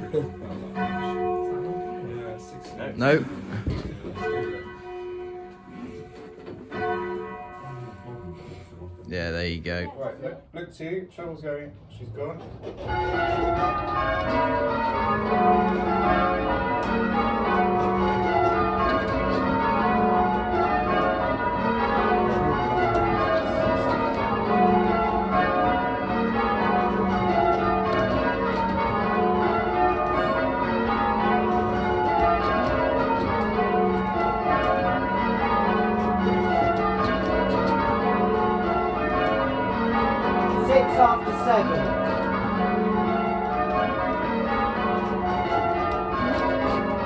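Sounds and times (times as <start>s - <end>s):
church bells ringing: 0.0s - 9.9s, 12.7s - 47.0s.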